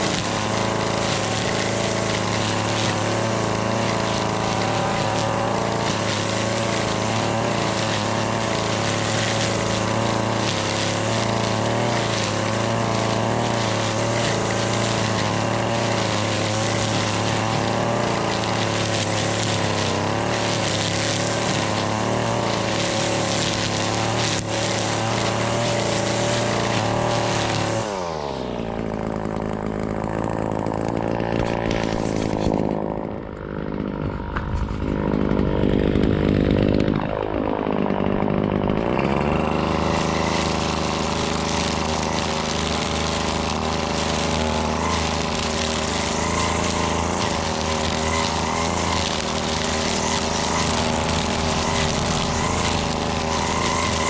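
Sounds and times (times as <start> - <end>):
string trimmer engine running: 0.0 - 54.0.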